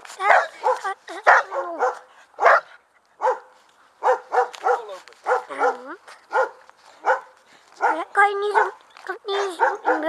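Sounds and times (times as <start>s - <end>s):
dog barking: 0.2s - 10.0s.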